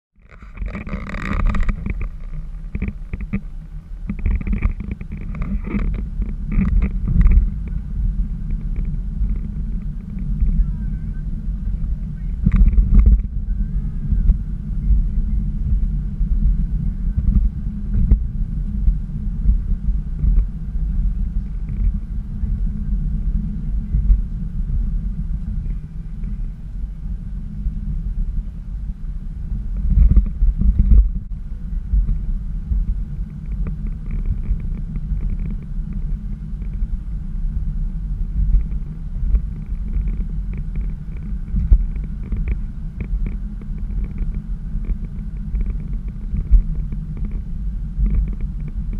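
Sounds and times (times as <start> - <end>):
car interior road rumble: 0.2 - 48.9.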